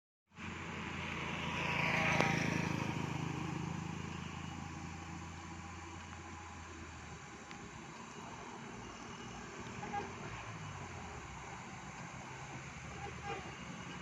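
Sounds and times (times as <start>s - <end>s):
low engine hum: 0.3s - 14.0s
bus passing by: 0.4s - 14.0s.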